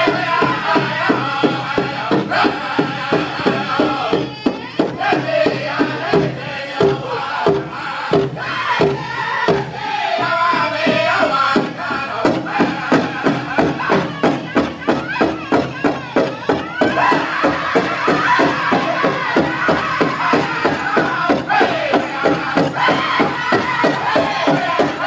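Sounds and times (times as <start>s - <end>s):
big drum steady beat: 0.0s - 25.0s
drum group singing: 0.0s - 25.0s.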